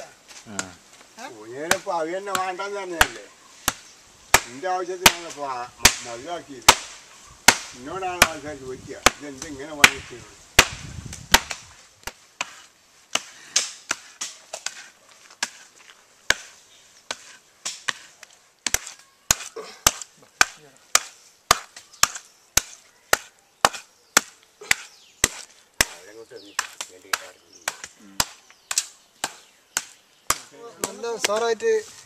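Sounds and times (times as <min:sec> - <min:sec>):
wooden paddle beating mud: 0:01.6 - 0:06.0, 0:06.6 - 0:08.4, 0:09.0 - 0:15.7, 0:16.3 - 0:31.6.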